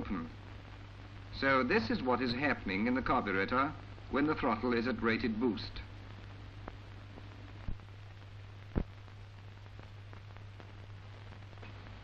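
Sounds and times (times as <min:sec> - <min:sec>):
constant low hum: 0:00.0 - 0:12.0
steady film hiss: 0:00.0 - 0:12.0.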